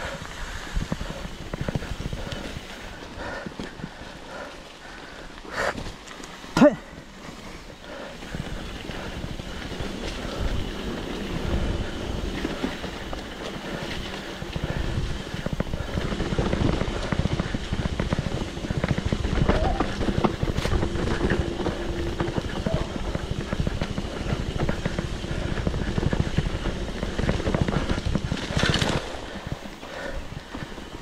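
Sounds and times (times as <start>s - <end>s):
wind buffeting microphone: 0.0s - 5.3s, 7.0s - 31.0s
bike rattling over rough trail: 0.0s - 31.0s.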